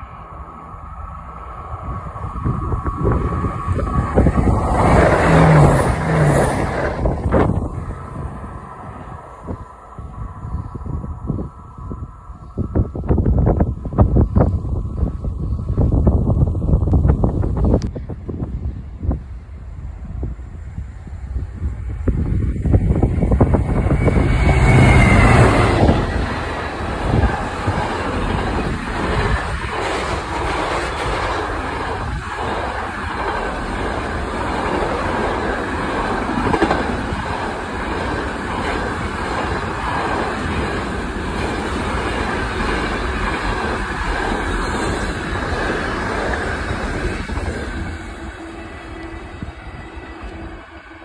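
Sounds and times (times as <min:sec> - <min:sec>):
diesel locomotive passing: 0:00.0 - 0:51.0.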